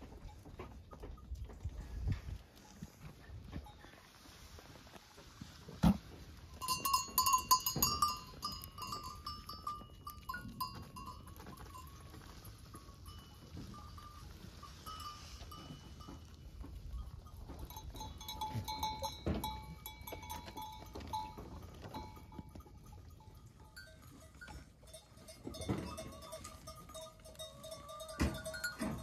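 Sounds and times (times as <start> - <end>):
goat bells ringing: 0.0 - 2.0, 6.4 - 29.0.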